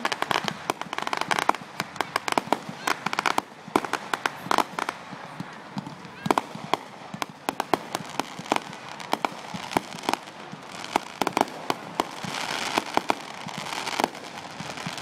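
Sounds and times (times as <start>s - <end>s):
crackling hiss: 0.0s - 15.0s
fireworks popping and banging: 0.0s - 15.0s.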